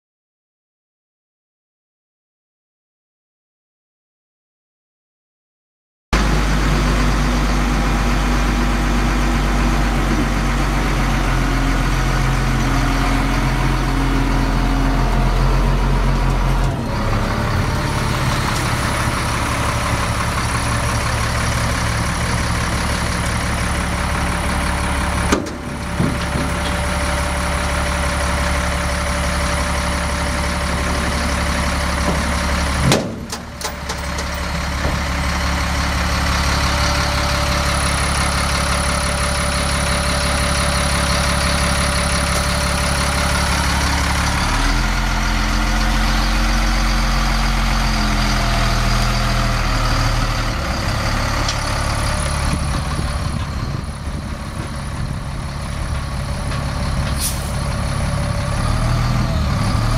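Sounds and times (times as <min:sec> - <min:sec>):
diesel truck engine idling: 0:06.2 - 0:59.9.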